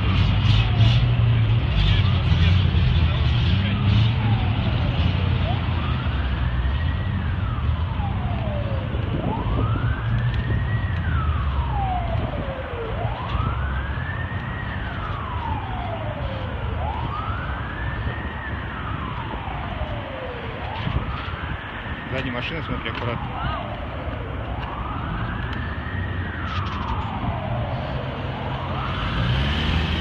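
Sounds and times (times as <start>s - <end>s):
wailing siren: 0.0s - 30.0s.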